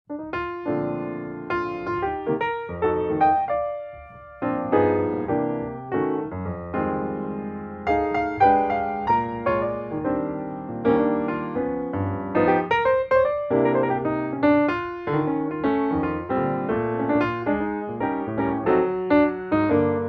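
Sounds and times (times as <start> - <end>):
gentle piano music: 0.1 - 20.0.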